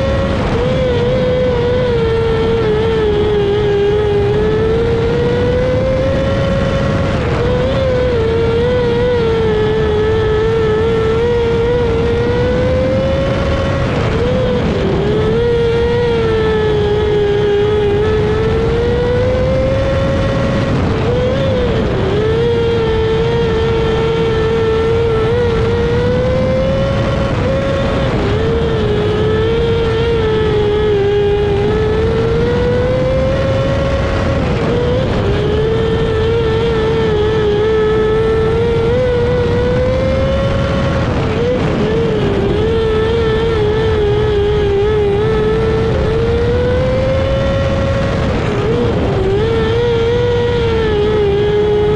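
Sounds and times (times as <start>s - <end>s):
race car engine at high revs: 0.0s - 51.9s
steady rushing noise: 0.0s - 51.9s.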